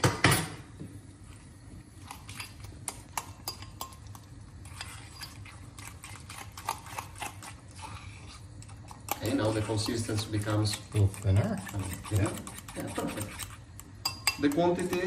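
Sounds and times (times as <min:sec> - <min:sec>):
fork scraping ceramic bowl: 0:02.0 - 0:15.0.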